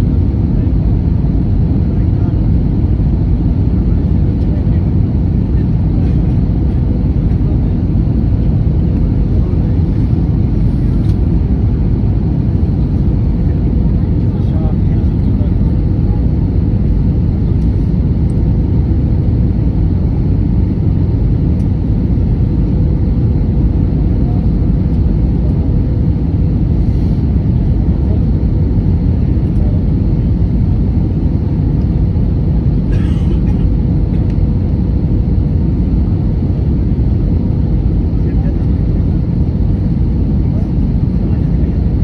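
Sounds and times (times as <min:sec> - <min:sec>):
airliner cabin rumble: 0:00.0 - 0:42.0
steady hum: 0:00.0 - 0:42.0.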